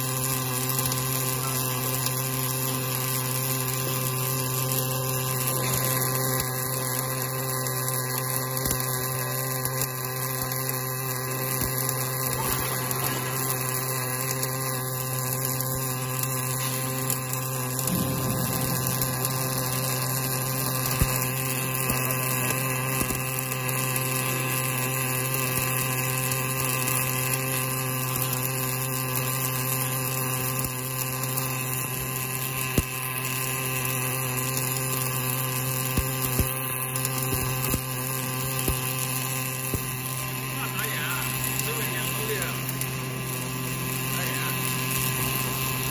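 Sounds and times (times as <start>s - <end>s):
welding arc humming and hissing: 0.0s - 45.9s.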